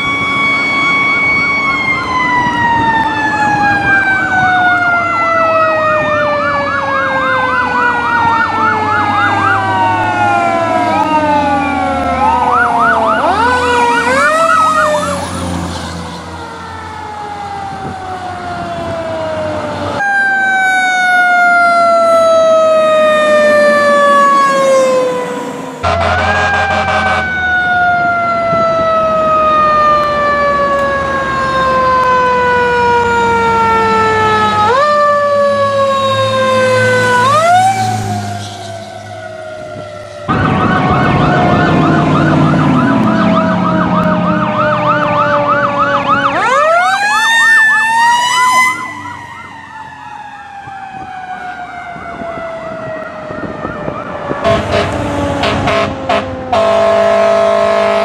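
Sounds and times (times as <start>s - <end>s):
fast warbling siren yelp: 0.0s - 58.0s
fire engine siren wailing: 0.0s - 58.0s.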